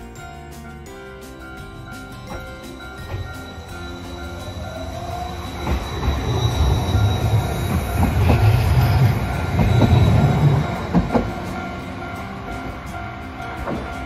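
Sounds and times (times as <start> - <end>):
tram motor whine: 0.2 - 14.0
wheels rumbling on rail: 0.6 - 14.0
wheels clacking over rail joints: 2.0 - 14.0.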